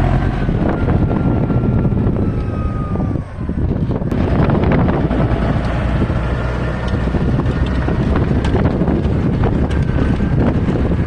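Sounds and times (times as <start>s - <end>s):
tractor engine running: 0.0s - 11.0s
wind buffeting microphone: 0.0s - 11.0s.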